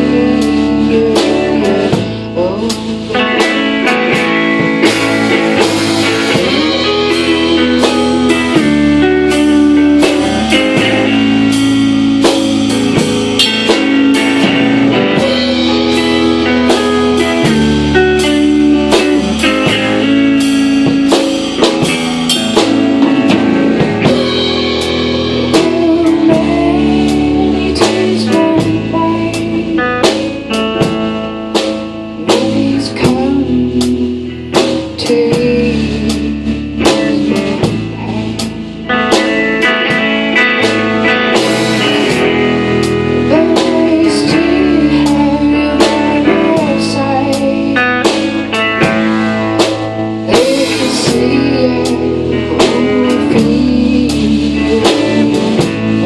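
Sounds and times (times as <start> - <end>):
drum kit beat: 0.0 - 56.0
guitar-led band playing: 0.0 - 56.0.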